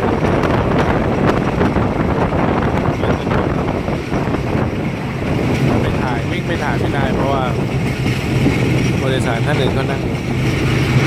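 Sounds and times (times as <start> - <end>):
railcar wind and running noise: 0.0 - 11.0.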